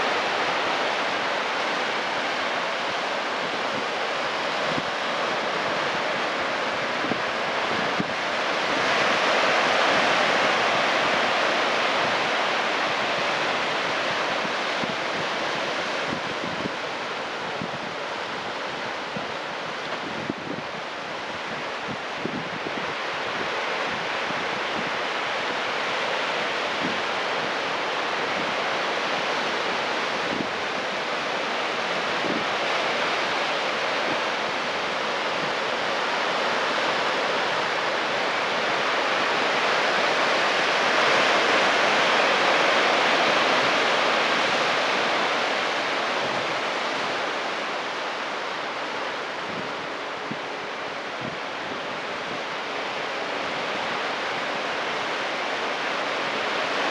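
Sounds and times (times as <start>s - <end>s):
surf washing over rocks: 0.0s - 56.9s.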